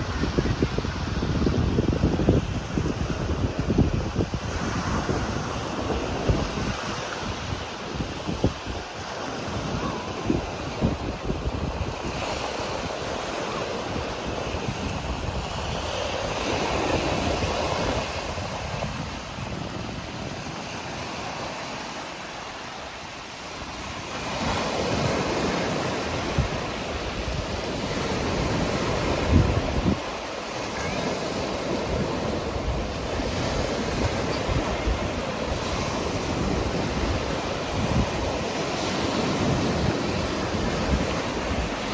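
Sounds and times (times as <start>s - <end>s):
wind buffeting microphone: 0.0s - 21.4s, 23.6s - 41.9s
sea surf washing onto beach: 0.0s - 41.9s.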